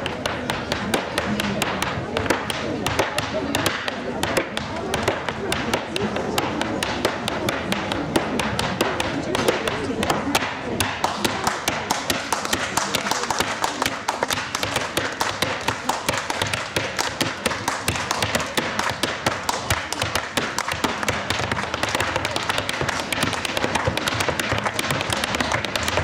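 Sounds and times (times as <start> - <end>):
hard shoes tapping on wooden stage: 0.0 - 26.0.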